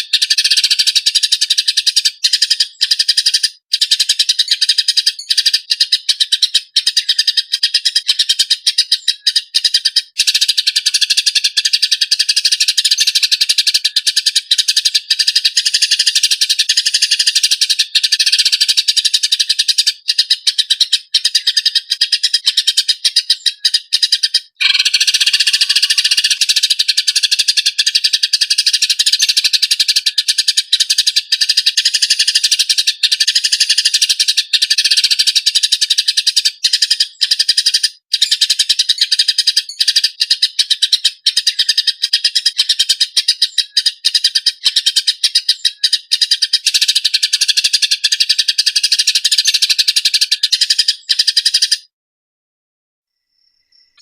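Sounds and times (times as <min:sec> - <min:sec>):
sparrows chattering: 0:00.0 - 0:51.9.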